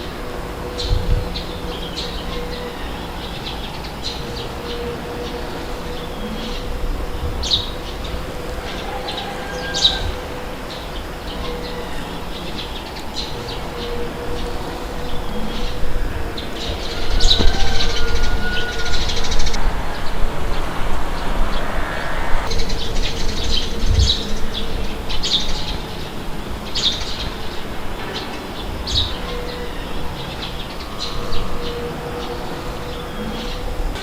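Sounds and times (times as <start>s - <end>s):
low wind rumble: 0.0s - 34.0s.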